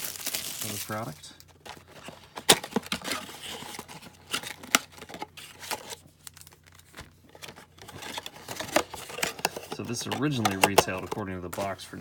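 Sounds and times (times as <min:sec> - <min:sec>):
cardboard packaging crinkling: 0:00.0 - 0:11.8.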